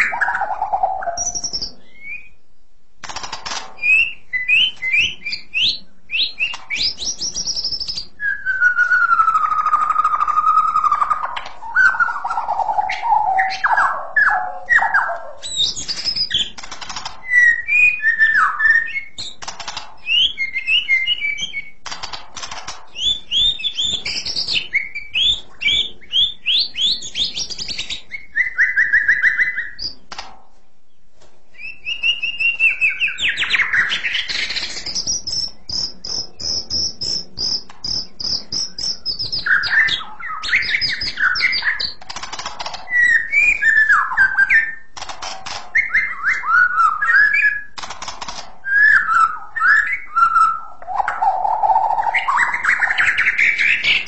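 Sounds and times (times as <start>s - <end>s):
bird singing whistled phrases: 0.0s - 2.4s, 3.8s - 16.5s, 17.2s - 19.4s, 20.0s - 21.8s, 23.0s - 30.0s, 31.6s - 42.0s, 42.9s - 44.9s, 45.7s - 47.8s, 48.7s - 54.0s.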